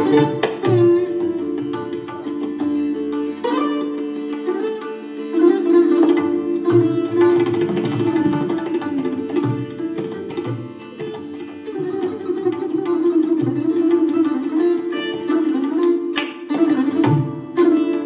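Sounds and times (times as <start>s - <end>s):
tabla strokes: 0.0s - 4.9s, 6.0s - 18.0s
sitar melody: 0.0s - 18.0s.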